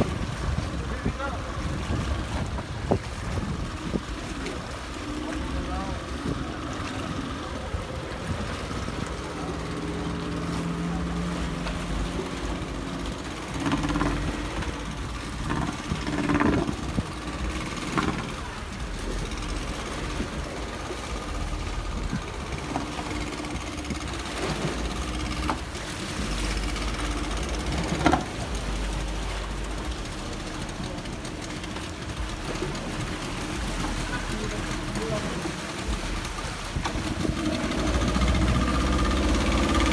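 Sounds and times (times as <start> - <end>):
outboard motors running: 0.0 - 39.9.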